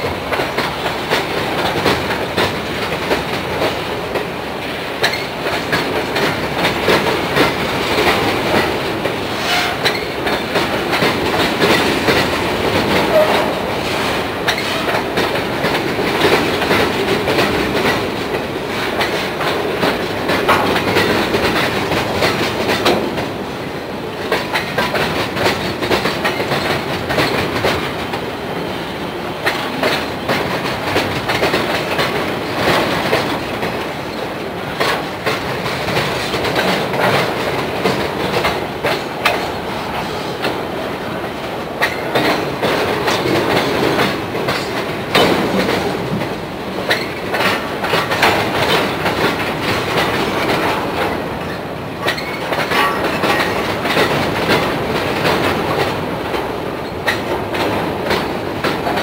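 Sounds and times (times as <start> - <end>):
rumble and rattle of freight cars: 0.0 - 59.0
wheels clicking over rail joints: 0.0 - 59.0.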